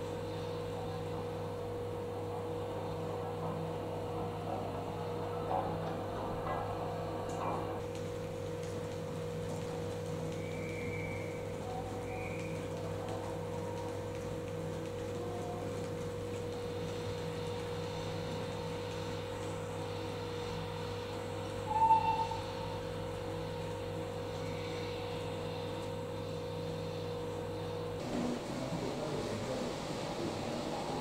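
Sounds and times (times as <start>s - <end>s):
steady hum of low tones: 0.0s - 31.0s.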